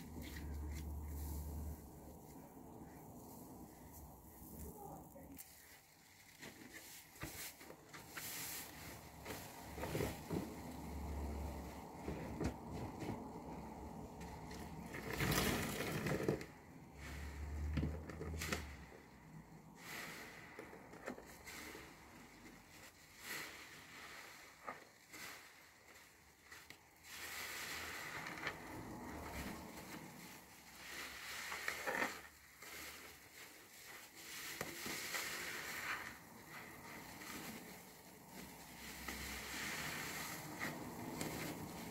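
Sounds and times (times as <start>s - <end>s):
sponge squelching in soapy water: 0.0s - 15.9s, 18.3s - 41.9s.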